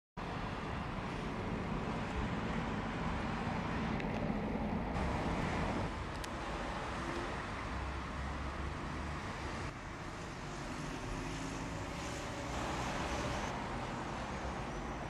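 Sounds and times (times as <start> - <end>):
distant city traffic hum: 0.2 - 15.0.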